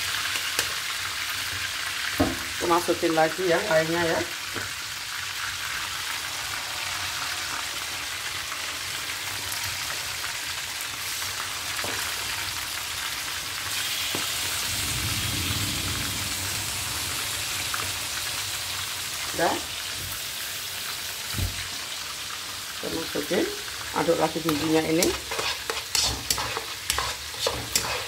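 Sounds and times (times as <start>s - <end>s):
chicken frying in oil: 0.0s - 28.0s.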